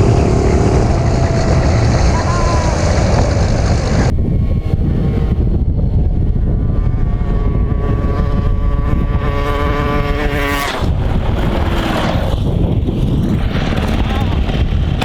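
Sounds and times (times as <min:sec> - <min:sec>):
motorbike engine accelerating: 0:00.0 - 0:15.0
wind noise on microphone: 0:00.0 - 0:15.0.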